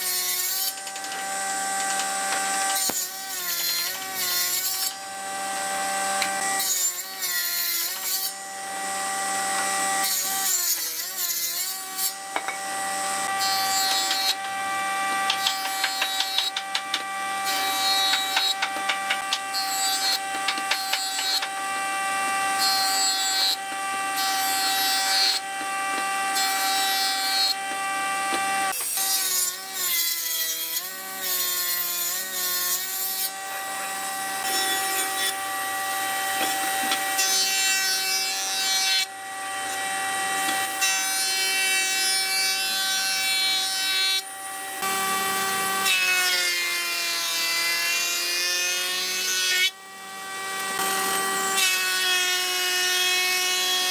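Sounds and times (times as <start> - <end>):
power tool cutting wood: 0.0 - 53.9.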